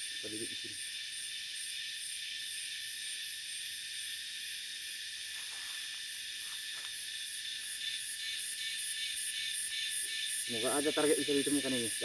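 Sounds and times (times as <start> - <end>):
high pulsing insect buzz: 0.0 - 12.0
insects buzzing: 0.0 - 12.0.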